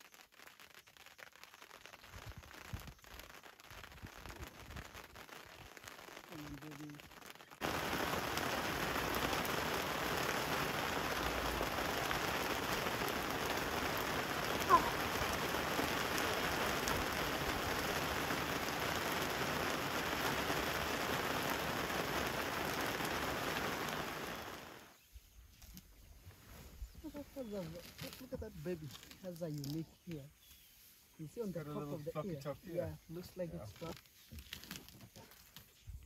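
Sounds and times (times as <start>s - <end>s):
rain falling on grass: 0.0s - 25.0s, 27.0s - 30.2s, 31.2s - 35.7s.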